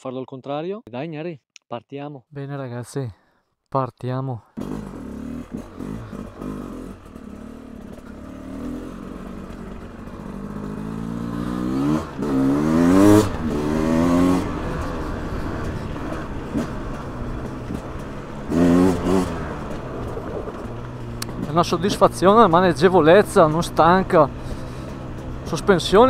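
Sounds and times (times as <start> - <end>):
motorcycle engine revving: 4.6 - 26.0.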